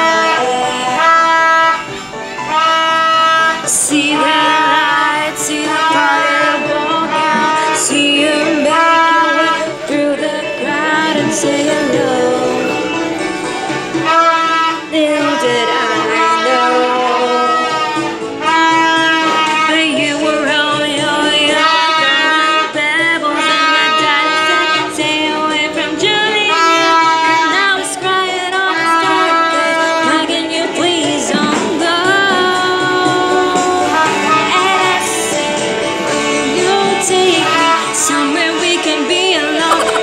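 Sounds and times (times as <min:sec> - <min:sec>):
music backing track: 0:00.0 - 0:40.0
woman singing karaoke: 0:00.0 - 0:40.0.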